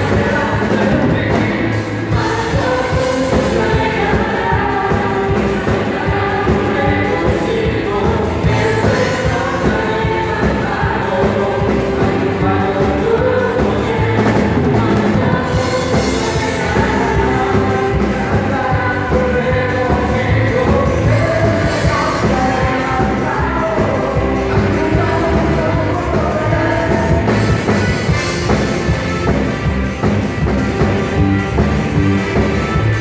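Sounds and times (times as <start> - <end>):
worship band playing: 0.0 - 33.0.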